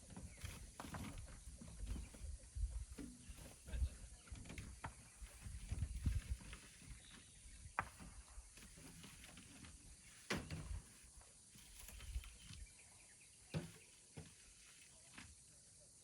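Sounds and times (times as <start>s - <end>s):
faint knocks and scrapes: 0.0s - 12.8s, 13.4s - 15.6s.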